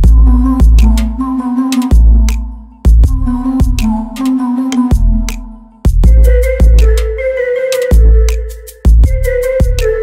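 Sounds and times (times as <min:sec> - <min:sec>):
electronic music with deep bass: 0:00.0 - 0:10.0.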